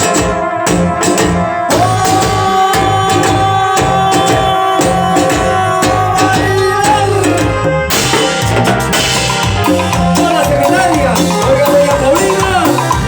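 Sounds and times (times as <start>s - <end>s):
bass and percussion beat: 0.0s - 13.0s
held lead note: 0.0s - 13.0s.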